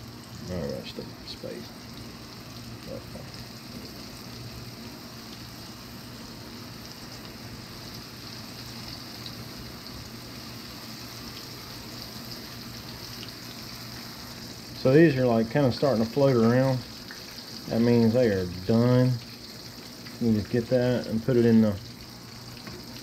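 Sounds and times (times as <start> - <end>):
fish fillets sizzling in oil: 0.0 - 23.0.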